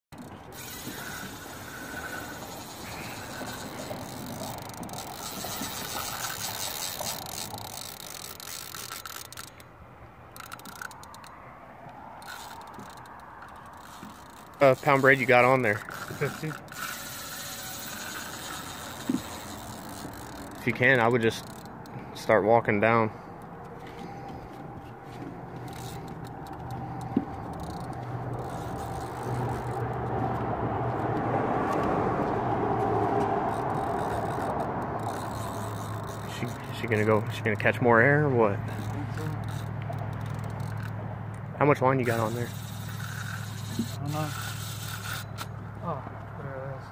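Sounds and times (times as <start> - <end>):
fishing reel drag clicking: 0.2 - 22.4, 25.4 - 30.1, 33.4 - 41.4, 42.0 - 45.6.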